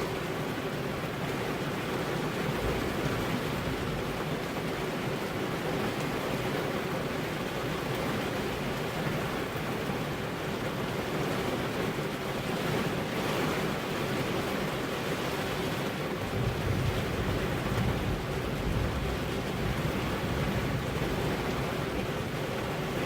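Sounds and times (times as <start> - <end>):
rain pattering on car windows: 0.0 - 23.0.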